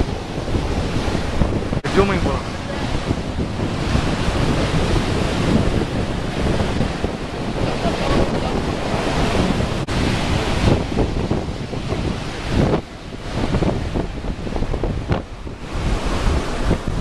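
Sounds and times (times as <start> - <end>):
surf breaking on a beach: 0.0 - 17.0
wind buffeting microphone: 0.0 - 17.0.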